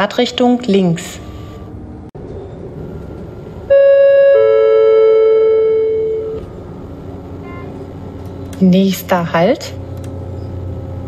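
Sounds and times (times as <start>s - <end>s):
railcar interior hum: 0.0s - 11.0s.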